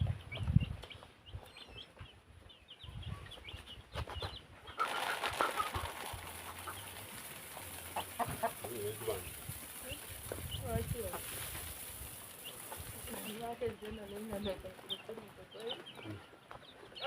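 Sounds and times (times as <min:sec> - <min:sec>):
chickens peeping: 0:00.0 - 0:17.0.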